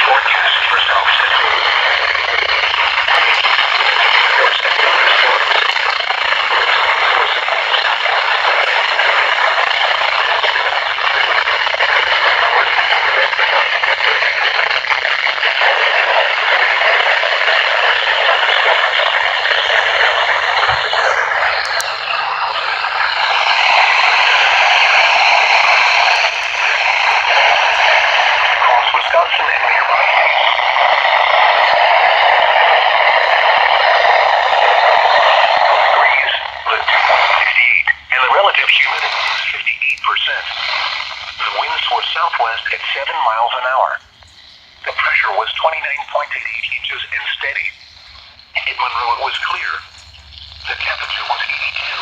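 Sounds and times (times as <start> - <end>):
radio static hiss: 0.0 - 52.0.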